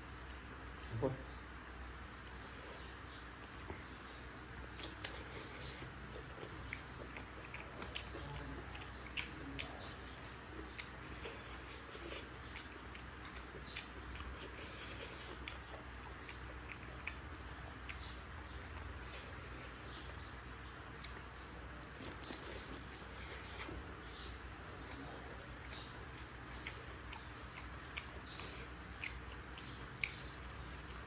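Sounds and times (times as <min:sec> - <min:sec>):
chewing and mouth clicks: 0:00.2 - 0:00.9, 0:02.2 - 0:31.0.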